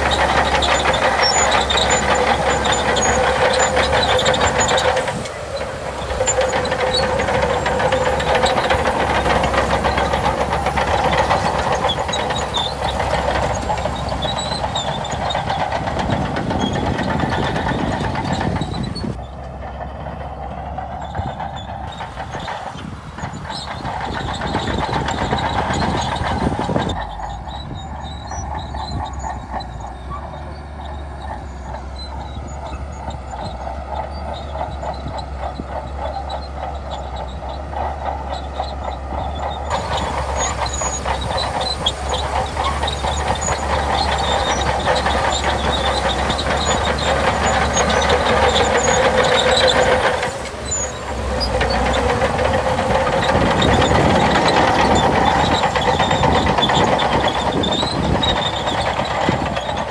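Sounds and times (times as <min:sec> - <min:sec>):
crawler tracks clanking: 0:00.0 - 0:59.9
diesel engine under load: 0:00.0 - 0:59.9.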